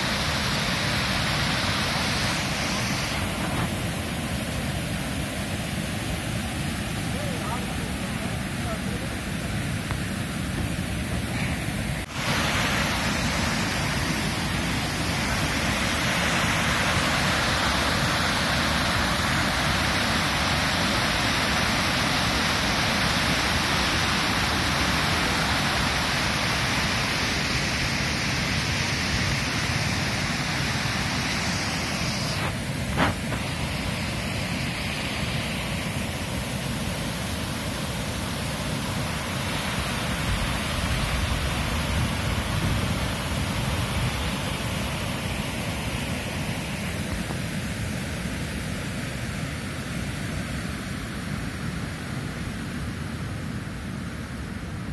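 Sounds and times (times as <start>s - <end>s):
river water rushing over weir: 0.0s - 54.9s.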